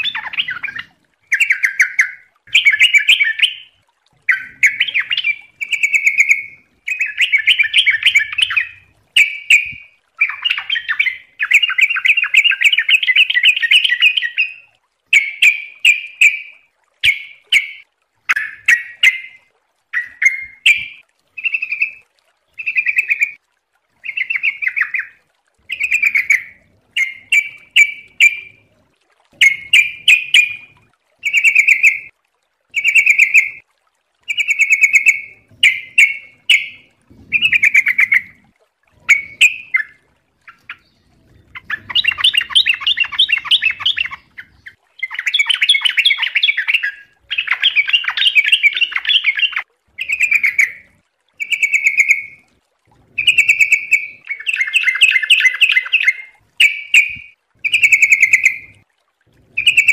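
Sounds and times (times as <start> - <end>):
bird singing chattery phrases: 0.0 - 19.4, 20.0 - 23.4, 24.0 - 28.7, 29.4 - 32.1, 32.8 - 33.6, 34.3 - 38.4, 39.0 - 52.4, 53.1 - 58.8, 59.6 - 59.9.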